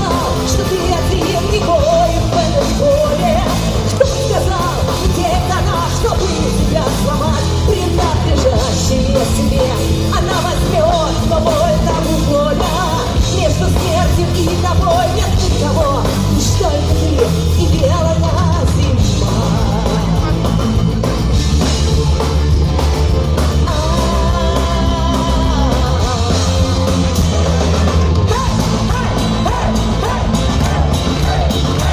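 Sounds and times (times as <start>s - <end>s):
folk-rock band playing: 0.0s - 31.9s
person singing: 0.0s - 31.9s.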